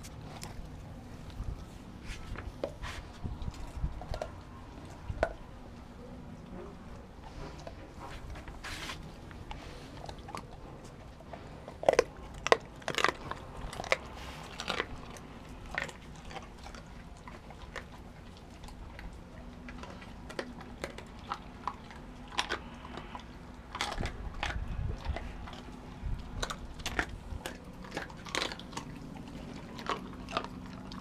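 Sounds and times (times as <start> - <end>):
dog chewing and crunching bones: 0.0 - 31.0.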